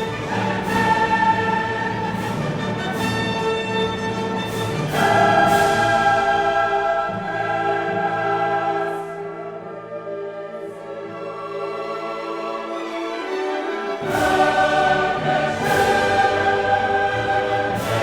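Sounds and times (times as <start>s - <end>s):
choir singing held chords: 0.0s - 3.0s, 4.6s - 18.0s
orchestra: 0.0s - 18.0s.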